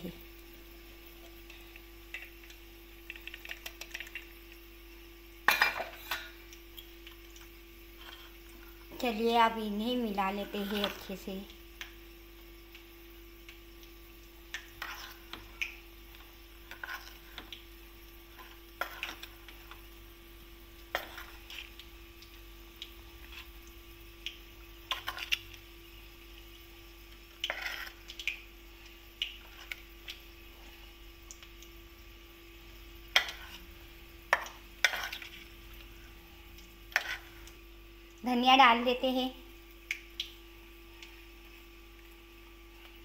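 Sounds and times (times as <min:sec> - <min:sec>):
faint hum: 0:00.0 - 0:43.0.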